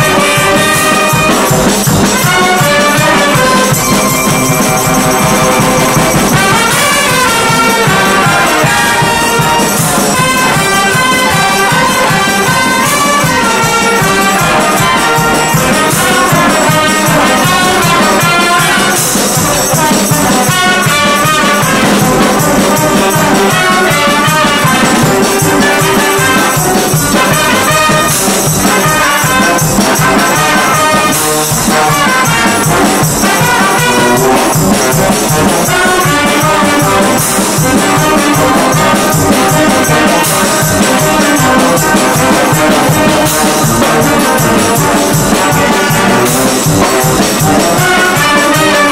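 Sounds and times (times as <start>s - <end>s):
brass band playing: 0.0s - 48.9s.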